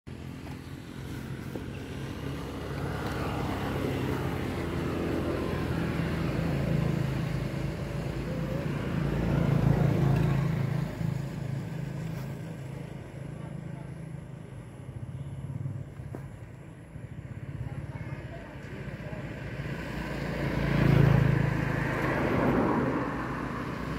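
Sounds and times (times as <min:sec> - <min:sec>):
vehicle engine passing by: 0:00.2 - 0:14.0, 0:17.4 - 0:23.9.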